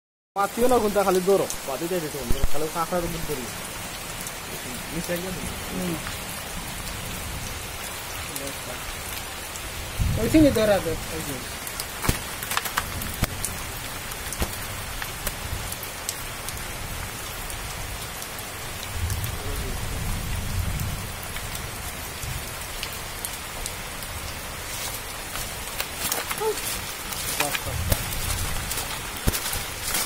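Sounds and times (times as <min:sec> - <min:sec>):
falling rain hiss: 0:00.4 - 0:30.0.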